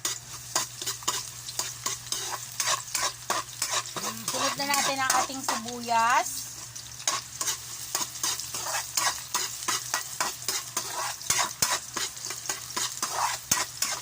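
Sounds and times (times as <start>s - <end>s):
utensil scraping and tapping pan: 0.0s - 5.7s, 7.1s - 14.0s
garlic and onion sizzling in oil: 0.0s - 14.0s.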